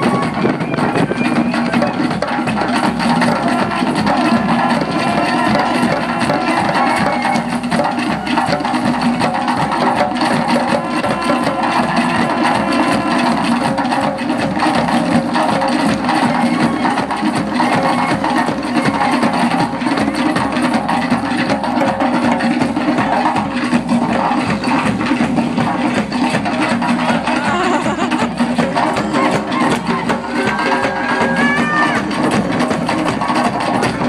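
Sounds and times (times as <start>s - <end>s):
hand drums beating fast: 0.0s - 34.0s.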